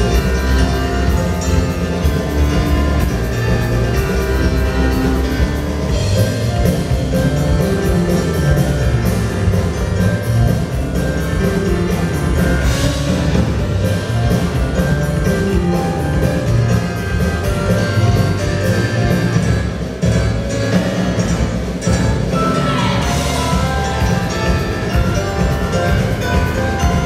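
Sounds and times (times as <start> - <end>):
fast percussion beat: 0.0 - 27.0
piano melody: 0.0 - 27.0.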